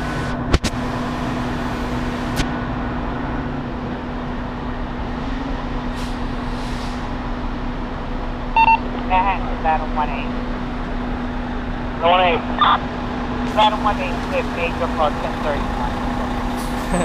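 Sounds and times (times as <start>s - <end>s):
city street traffic hum: 0.0s - 17.0s.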